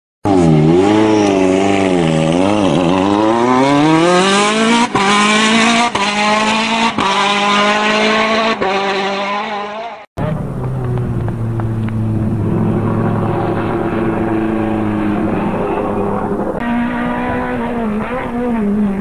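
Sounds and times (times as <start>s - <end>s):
racing car engine revving: 0.2s - 19.0s.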